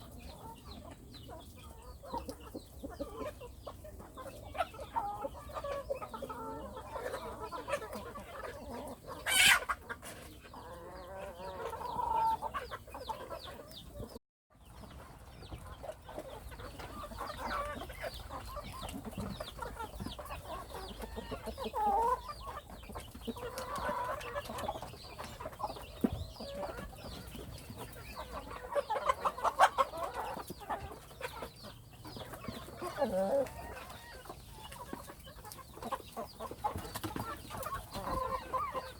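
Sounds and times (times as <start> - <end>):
hens clucking: 0.0 - 38.9.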